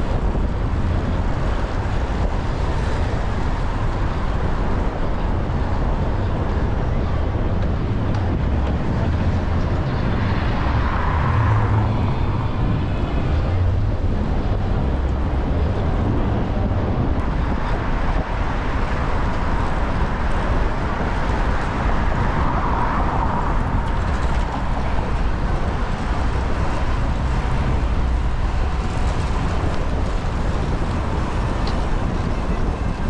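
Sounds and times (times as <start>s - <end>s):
city street traffic: 0.0s - 33.0s
wind rumble on microphone: 0.0s - 33.0s.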